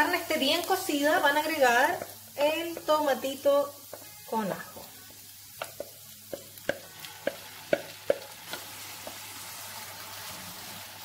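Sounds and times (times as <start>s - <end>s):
meat sizzling: 0.0s - 11.0s.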